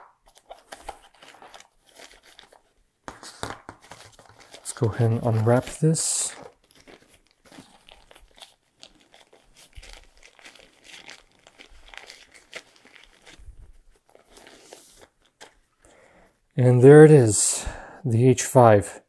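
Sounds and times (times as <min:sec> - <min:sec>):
packaging crinkling: 0:00.1 - 0:15.8.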